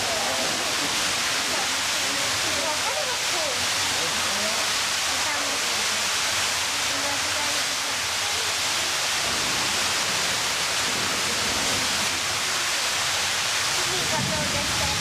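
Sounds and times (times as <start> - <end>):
faint murmuring voices: 0.0 - 15.0
steady hiss: 0.0 - 15.0.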